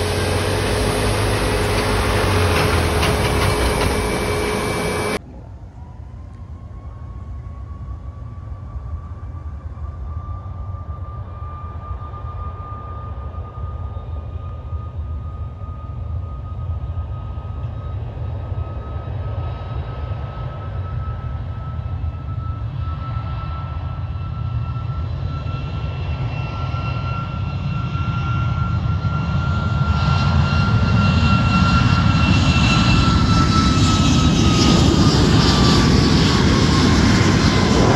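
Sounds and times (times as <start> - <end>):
jet engines rumbling and whining: 0.0 - 37.9.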